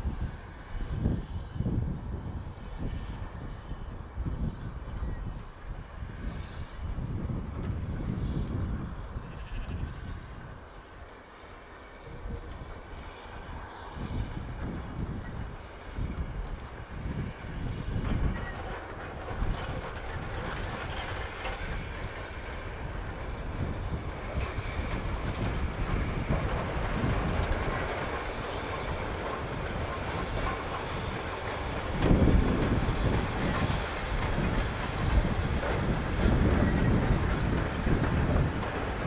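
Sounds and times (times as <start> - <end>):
steam train running on rails: 0.0 - 39.0.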